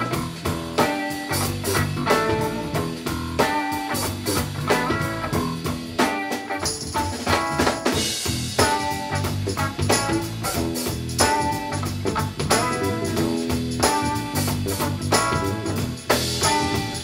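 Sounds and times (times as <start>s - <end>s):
electric bass: 0.0s - 6.0s, 6.6s - 17.0s
drum kit steady beat: 0.0s - 17.0s
electric guitar: 0.0s - 17.0s.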